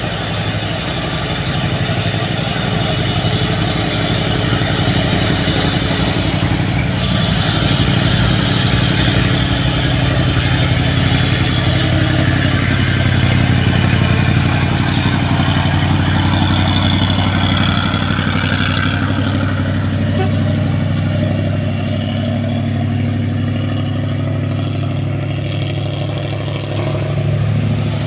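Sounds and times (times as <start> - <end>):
diesel truck engines droning: 0.0 - 28.0.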